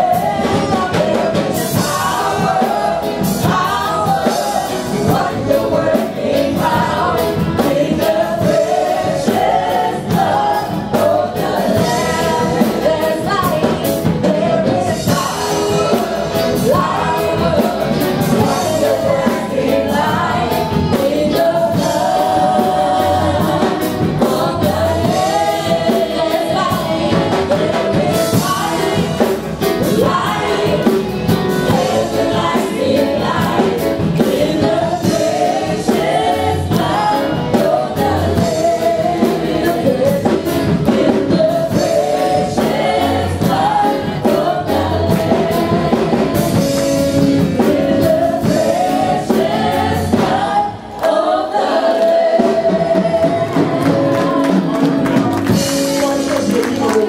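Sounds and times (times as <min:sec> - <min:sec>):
drums: 0:00.0 - 0:57.0
gospel band and choir: 0:00.0 - 0:57.0.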